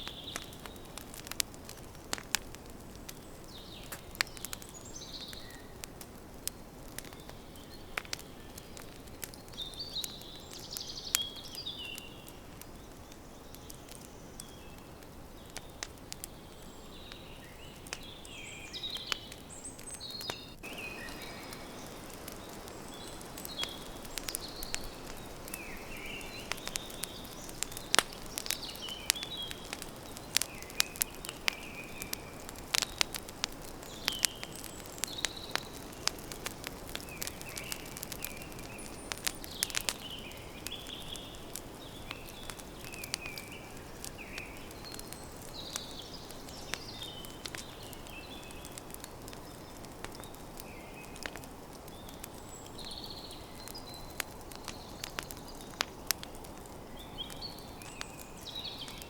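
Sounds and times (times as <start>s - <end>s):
campfire crackling: 0.0s - 59.0s
small birds chirping: 0.0s - 59.0s.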